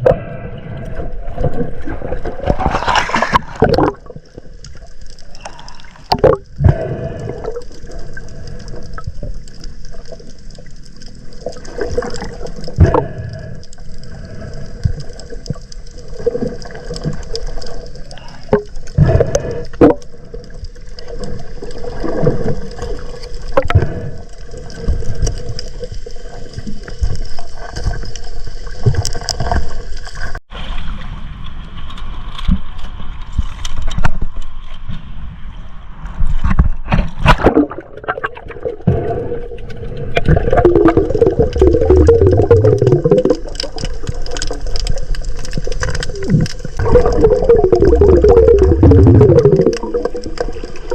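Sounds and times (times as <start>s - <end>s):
water sloshing and gurgling: 0.0s - 50.9s.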